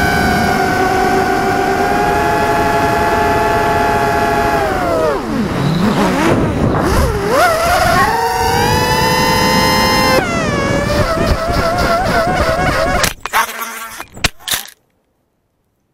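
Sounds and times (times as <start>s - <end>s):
drone motors whining: 0.0s - 14.7s.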